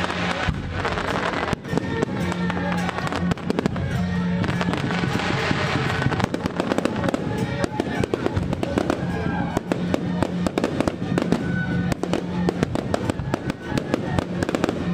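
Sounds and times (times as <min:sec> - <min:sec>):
fireworks cracking and banging: 0:00.0 - 0:14.9
music playing: 0:00.0 - 0:14.9.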